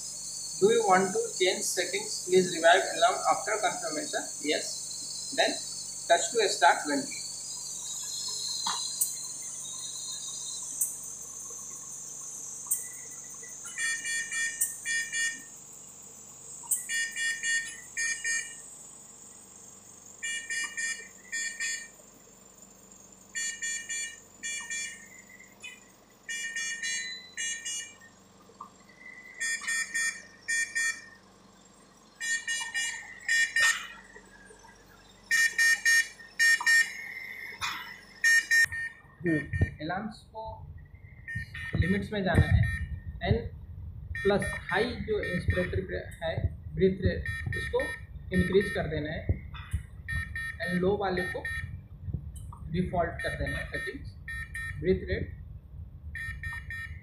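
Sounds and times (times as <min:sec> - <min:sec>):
ventilator alarm short high beeps: 0:00.1 - 0:15.6, 0:16.5 - 0:18.7, 0:20.2 - 0:22.0, 0:23.3 - 0:31.4, 0:32.2 - 0:39.9, 0:40.8 - 0:43.3, 0:44.1 - 0:51.9, 0:53.0 - 0:55.4, 0:56.1 - 0:57.0.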